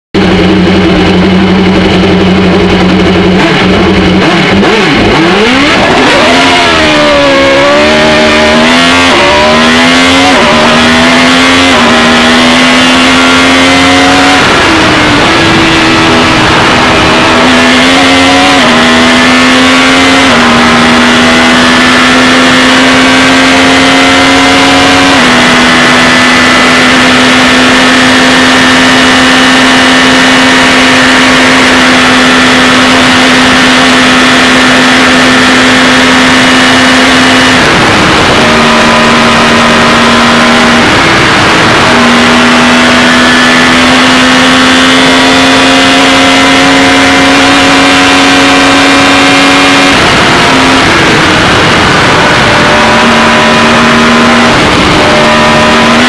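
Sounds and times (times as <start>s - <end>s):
racing car engine revving: 0.2s - 56.0s.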